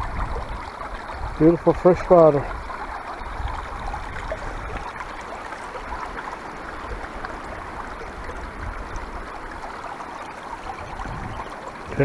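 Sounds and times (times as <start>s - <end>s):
stream trickling and babbling: 0.0s - 12.0s.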